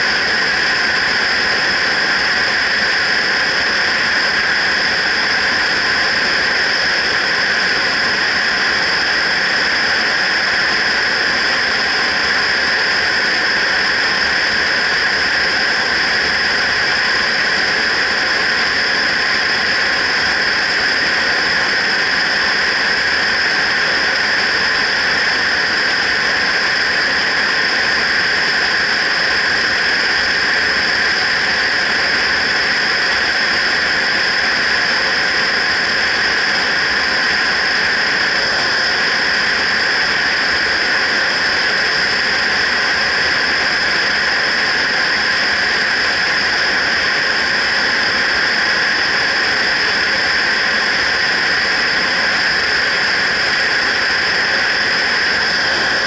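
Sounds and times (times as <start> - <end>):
rushing wind noise: 0.0 - 56.0.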